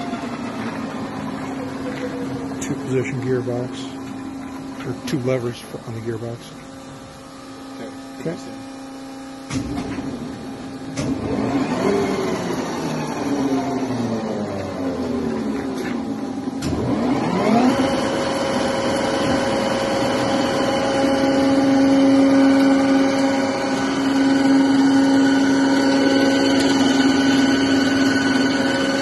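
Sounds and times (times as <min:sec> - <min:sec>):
drilling machine spindle whine: 0:00.0 - 0:29.0.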